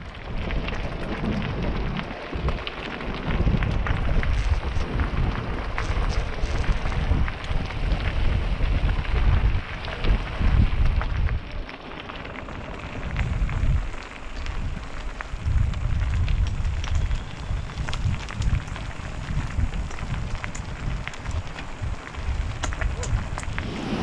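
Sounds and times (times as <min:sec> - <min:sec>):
wind buffeting microphone: 0:00.0 - 0:11.7, 0:12.3 - 0:24.0
bike tyres crunching gravel: 0:00.0 - 0:24.0.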